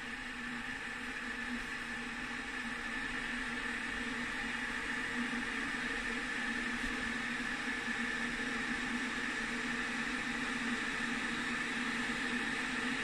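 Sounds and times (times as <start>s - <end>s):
electric kettle hissing: 0.0s - 13.0s.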